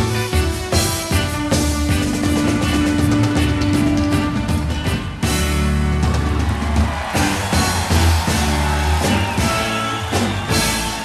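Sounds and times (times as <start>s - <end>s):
reggae band playing: 0.0s - 11.0s.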